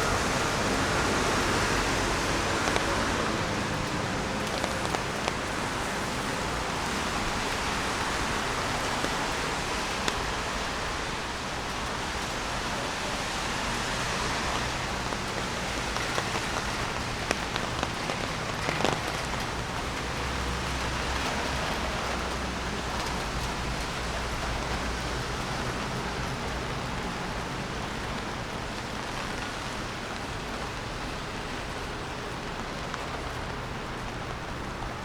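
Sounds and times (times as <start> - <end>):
rain falling on street: 0.0 - 35.0
sharp raindrop hits: 0.0 - 35.0.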